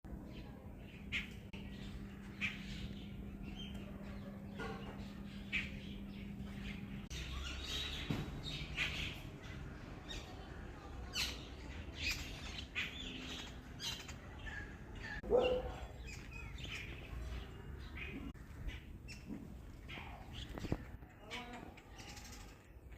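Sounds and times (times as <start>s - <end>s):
birds chirping: 0.1s - 22.9s.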